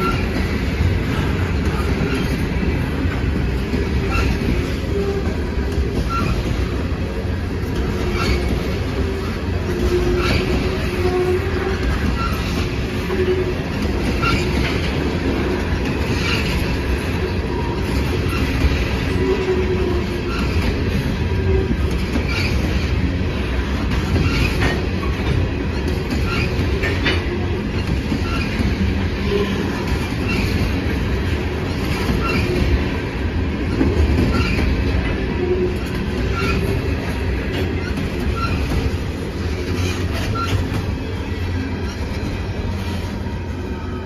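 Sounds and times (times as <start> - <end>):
freight cars clicking and clanking: 0.0 - 44.0
train wheels rumbling on rail: 0.0 - 44.0.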